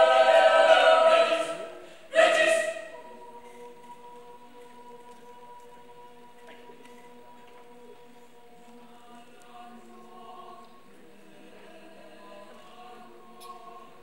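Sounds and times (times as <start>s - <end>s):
mixed choir singing soft chords: 0.0s - 14.0s.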